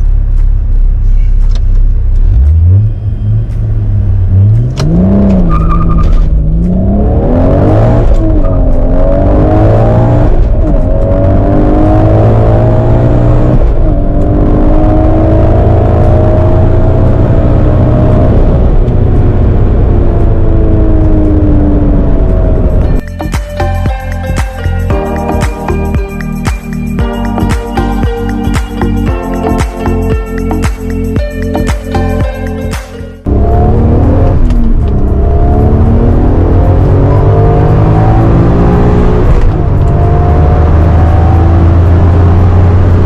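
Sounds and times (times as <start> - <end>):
car engine at full throttle: 0.0 - 43.0.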